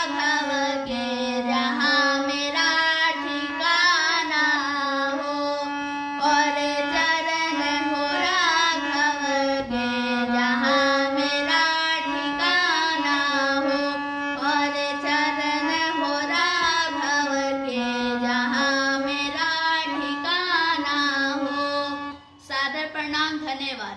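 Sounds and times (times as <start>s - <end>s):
person singing devotional song: 0.0s - 23.2s.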